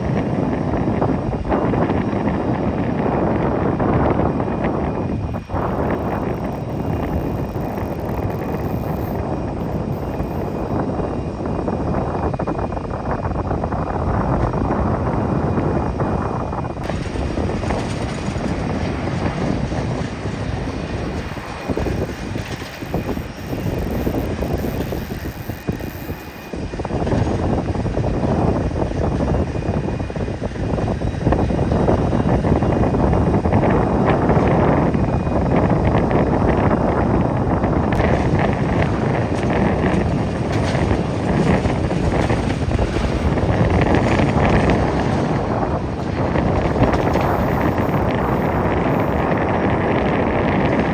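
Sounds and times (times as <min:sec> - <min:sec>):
jet engines roaring with whine: 0:00.0 - 0:50.9
wind buffeting microphone: 0:00.0 - 0:50.9.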